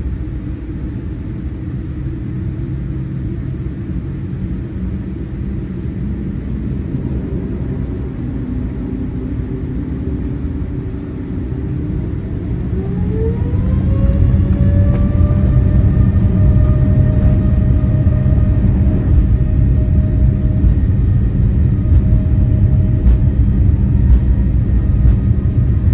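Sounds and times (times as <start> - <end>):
airliner engines rumbling: 0.0 - 25.9.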